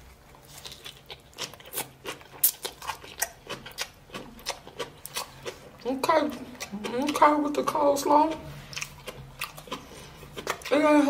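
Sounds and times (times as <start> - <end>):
crunchy chewing of cabbage slaw: 0.0 - 11.0.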